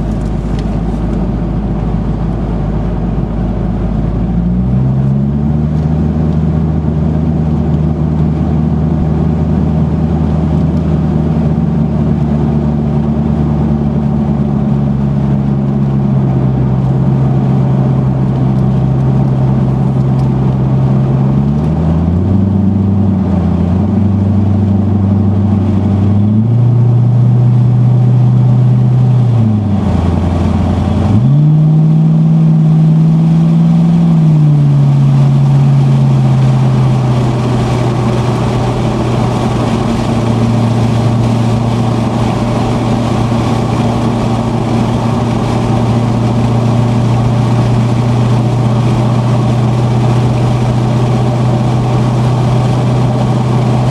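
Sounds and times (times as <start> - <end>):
car engine accelerating: 0.0 - 53.9
road and wind noise: 0.0 - 53.9.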